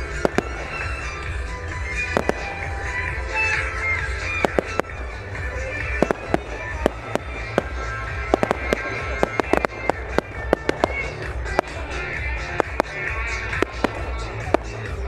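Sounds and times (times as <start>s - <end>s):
fireworks bangs and pops: 0.0s - 15.0s
music with steady bass: 0.0s - 15.0s.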